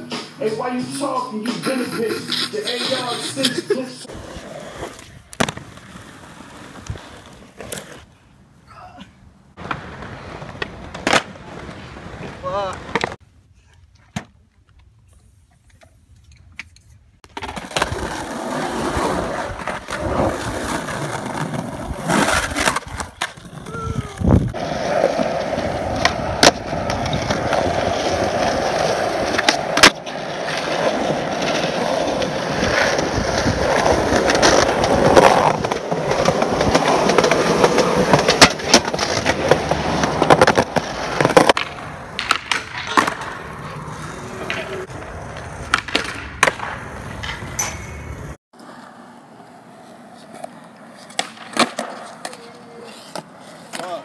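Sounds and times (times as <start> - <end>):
skateboard wheels rolling on pavement: 0.0 - 8.6, 9.3 - 13.3, 14.1 - 54.0
skateboard popping and landing: 4.1 - 8.1, 9.6 - 13.2, 16.4 - 54.0.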